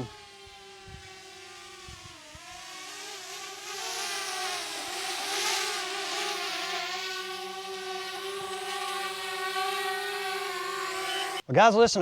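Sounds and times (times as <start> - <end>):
drone propellers buzzing: 0.0 - 11.4.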